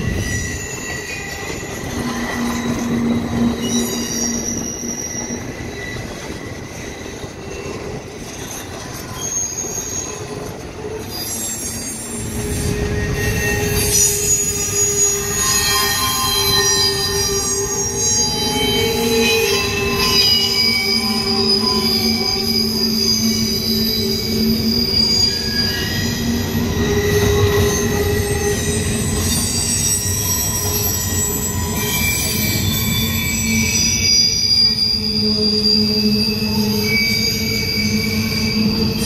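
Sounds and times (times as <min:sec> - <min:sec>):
train rumble: 0:00.0 - 0:39.0
train wheels squealing: 0:00.0 - 0:39.0.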